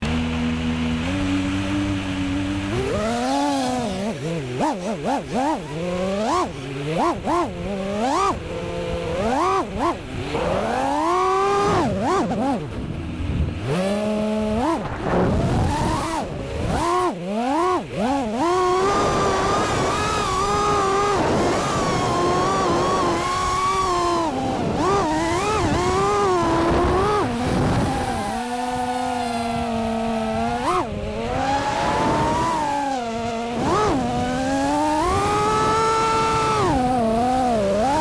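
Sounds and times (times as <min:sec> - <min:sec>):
drone motors whining: 0:00.0 - 0:38.0.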